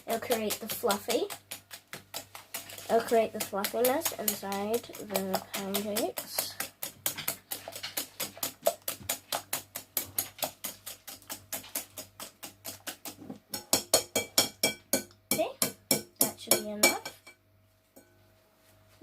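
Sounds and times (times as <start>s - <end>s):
whisk clicking against bowl: 0.0s - 17.0s.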